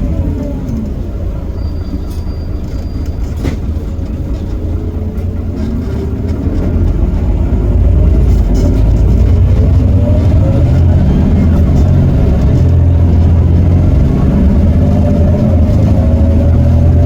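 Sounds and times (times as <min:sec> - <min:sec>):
bus diesel engine accelerating: 0:00.0 - 0:17.0.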